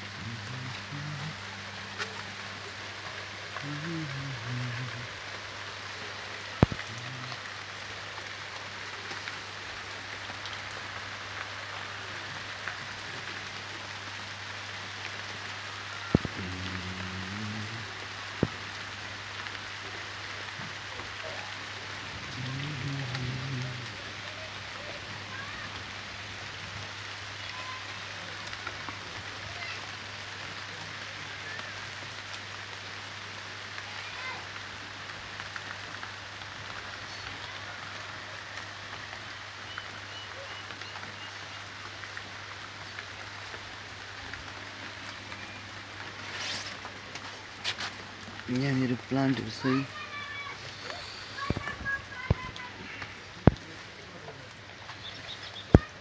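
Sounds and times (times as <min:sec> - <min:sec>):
rain pattering on leaves: 0:00.0 - 0:56.0.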